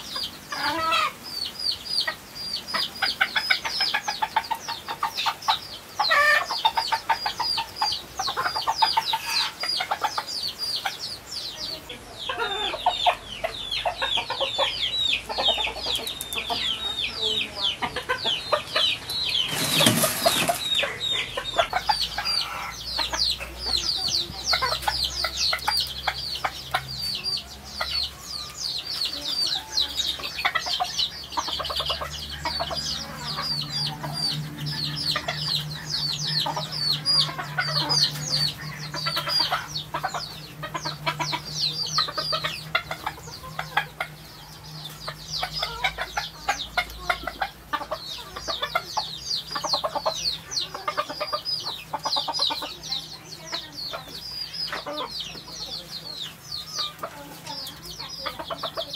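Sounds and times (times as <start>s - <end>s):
chickens chirping: 0.0s - 58.9s.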